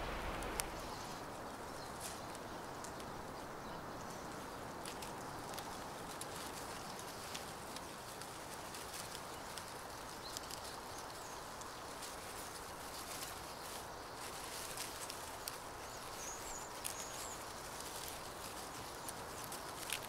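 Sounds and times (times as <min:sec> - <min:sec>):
foliage rustling: 0:00.0 - 0:03.2, 0:04.0 - 0:20.0
small sharp crackles and clicks: 0:00.0 - 0:20.0
steady background hiss: 0:00.0 - 0:20.0.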